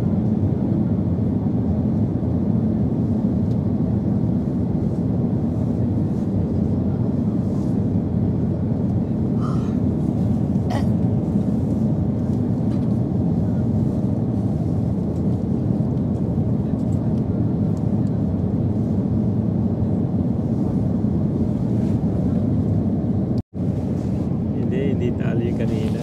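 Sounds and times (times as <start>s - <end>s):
airliner cabin engine rush: 0.0s - 26.0s.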